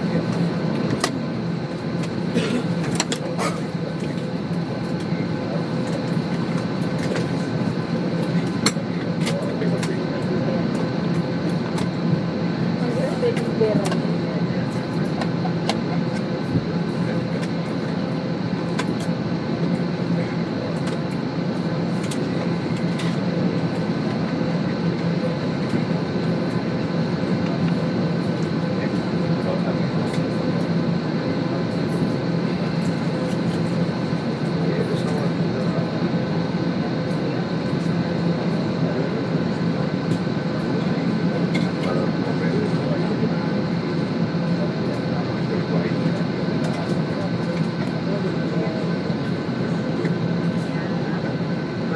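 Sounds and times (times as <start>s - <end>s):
airliner engine hum: 0.0s - 51.9s.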